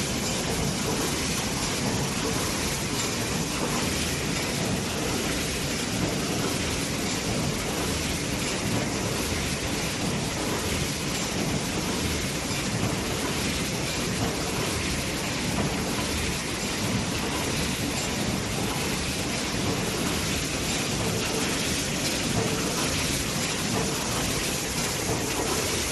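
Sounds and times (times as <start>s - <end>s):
packaging line machinery: 0.0s - 25.9s.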